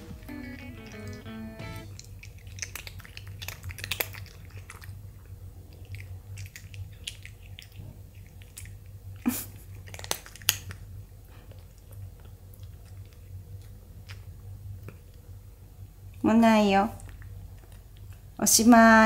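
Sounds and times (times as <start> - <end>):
cats chewing with mouth clicks: 0.2 - 15.4, 17.0 - 18.4.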